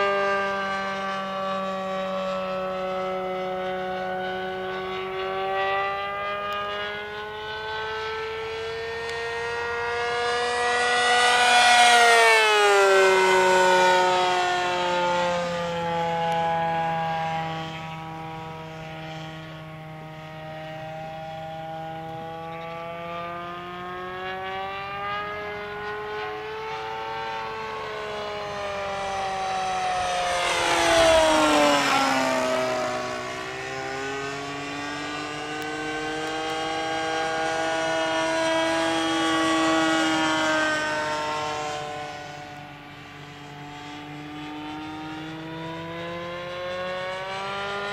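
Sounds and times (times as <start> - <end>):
model plane engine droning: 0.0 - 47.9.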